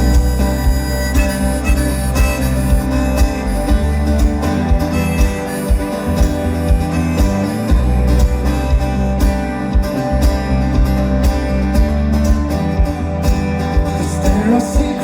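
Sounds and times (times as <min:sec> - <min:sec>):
acoustic guitar: 0:00.0 - 0:15.0
plucked strings: 0:00.0 - 0:15.0
steady kick drum beat: 0:00.0 - 0:15.0.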